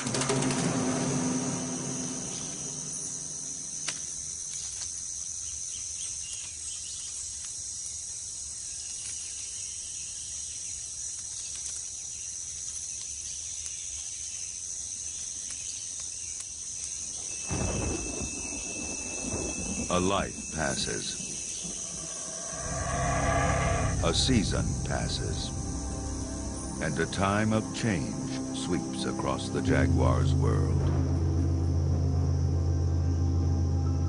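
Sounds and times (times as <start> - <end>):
insects trilling: 0.5 - 34.0.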